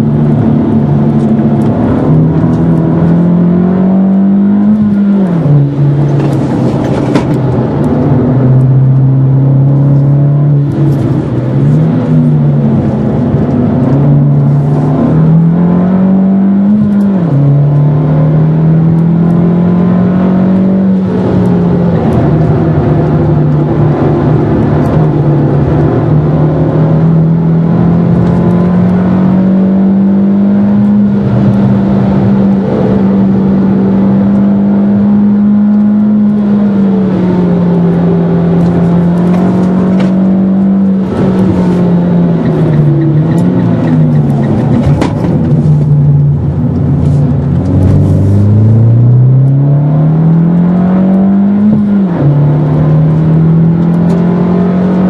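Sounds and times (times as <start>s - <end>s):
car engine under load: 0.0s - 55.0s.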